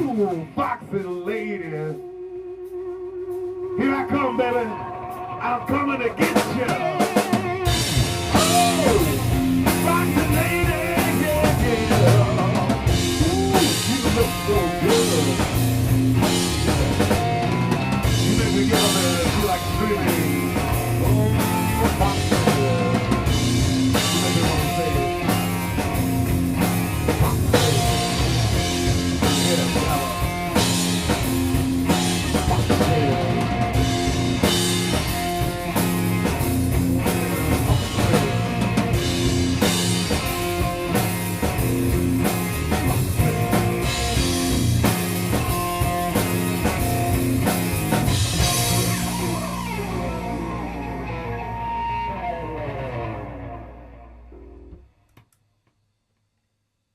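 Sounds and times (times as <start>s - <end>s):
electric guitar: 0.0s - 55.0s
drum kit beating: 2.6s - 50.8s.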